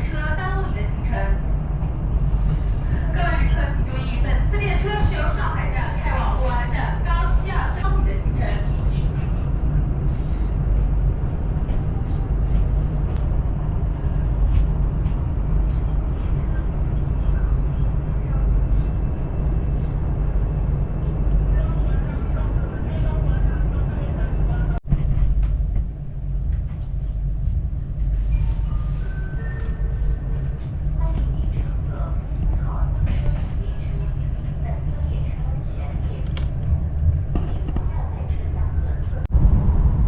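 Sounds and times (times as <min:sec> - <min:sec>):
high-speed train rumble: 0:00.0 - 0:40.0.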